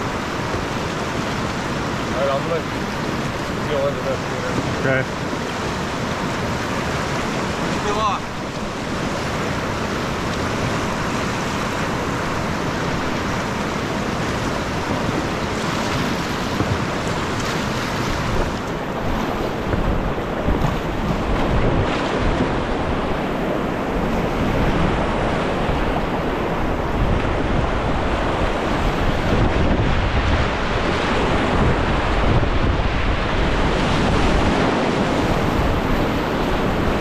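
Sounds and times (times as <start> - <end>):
rapids rushing: 0.0 - 37.0
water splashes: 0.0 - 37.0
wind buffeting microphone: 0.0 - 37.0.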